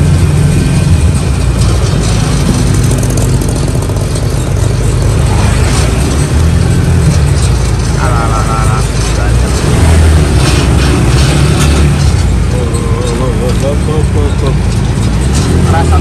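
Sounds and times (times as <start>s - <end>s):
road and wind noise: 0.0s - 16.0s
vehicle engine running: 0.0s - 16.0s.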